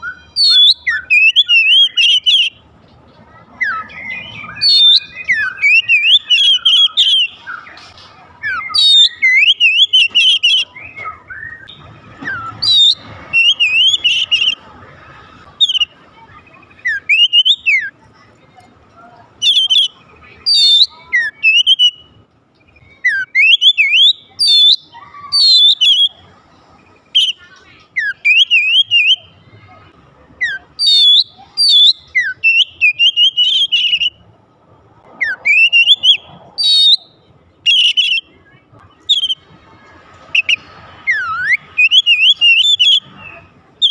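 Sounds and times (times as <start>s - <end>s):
bird singing whistled phrases: 0.0s - 2.6s, 3.6s - 7.8s, 8.4s - 14.6s, 15.6s - 17.9s, 19.4s - 26.2s, 27.1s - 29.3s, 30.4s - 34.2s, 35.2s - 38.4s, 39.0s - 39.5s, 40.3s - 43.9s.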